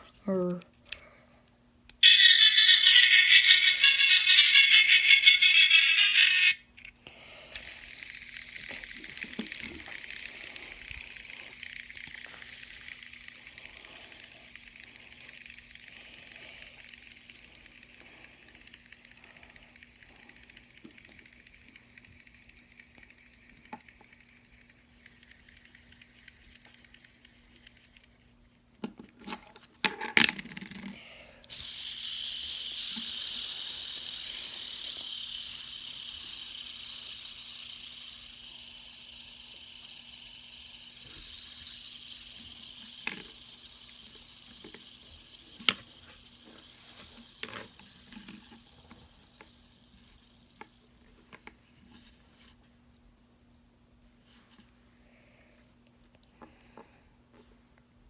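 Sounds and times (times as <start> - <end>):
fidget spinners whirring: 1.9 - 28.6, 30.1 - 53.5.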